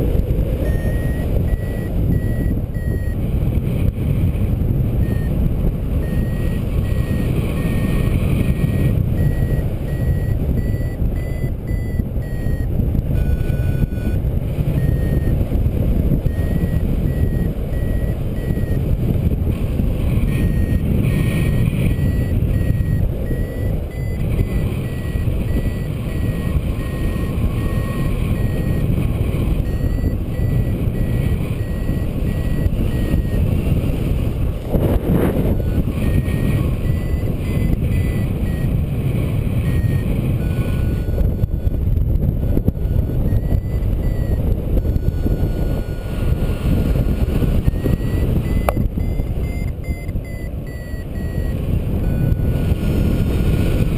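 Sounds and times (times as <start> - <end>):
wind rushing over microphone: 0.0 - 53.9
variometer short high beeps: 0.5 - 3.2, 4.6 - 19.1, 20.1 - 53.9.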